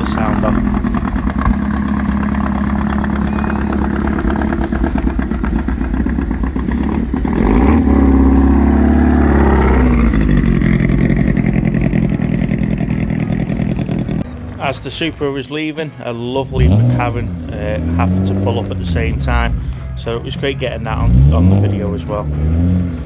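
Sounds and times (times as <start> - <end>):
car engine idling and revving: 0.0 - 15.2, 16.4 - 23.0.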